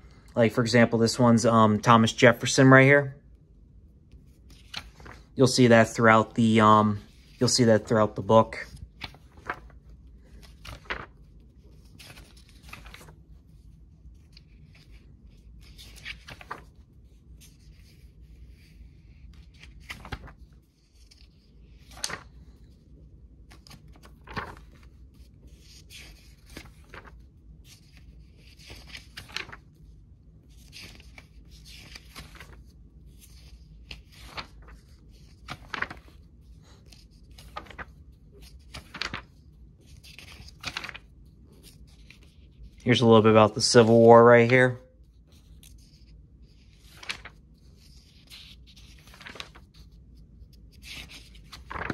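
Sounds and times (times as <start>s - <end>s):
book pages turning: 4.1s - 51.9s.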